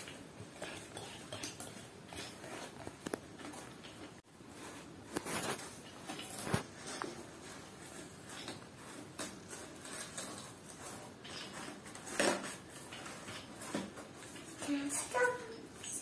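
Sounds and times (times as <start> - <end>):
plastic doll rustling and knocking: 0.0 - 16.0.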